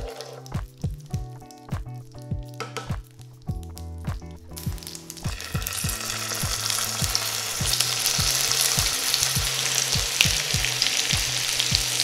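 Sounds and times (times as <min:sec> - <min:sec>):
frying pan sizzling: 0:00.0 - 0:03.8, 0:04.5 - 0:12.0.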